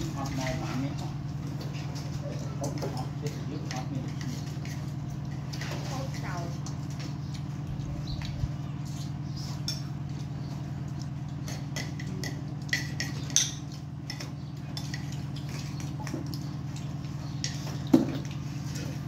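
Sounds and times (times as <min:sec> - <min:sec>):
steady low hum: 0:00.0 - 0:19.0
utensils clinking on dishes: 0:00.0 - 0:19.0.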